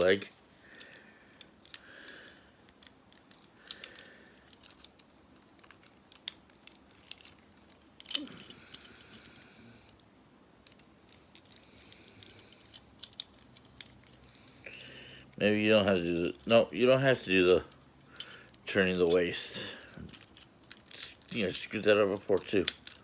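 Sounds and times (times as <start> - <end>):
plastic toy clicks and rattling: 0.7 - 10.0, 10.6 - 14.9, 15.9 - 23.0.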